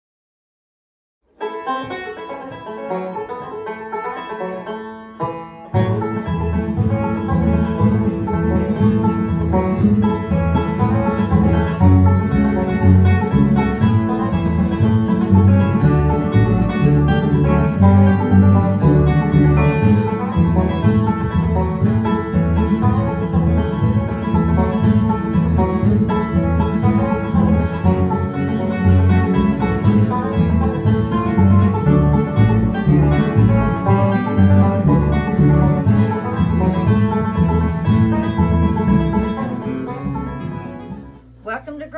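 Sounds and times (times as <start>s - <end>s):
bluegrass banjo and guitar: 1.3s - 41.9s.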